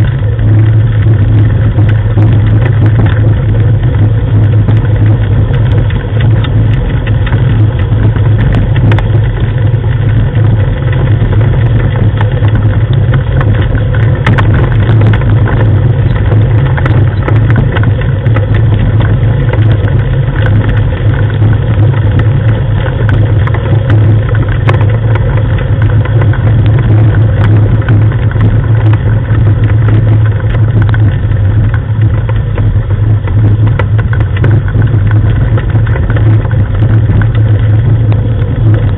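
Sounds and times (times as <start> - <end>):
rattles rolling over gravel: 0.0 - 38.9
vehicle engine droning: 0.0 - 38.9.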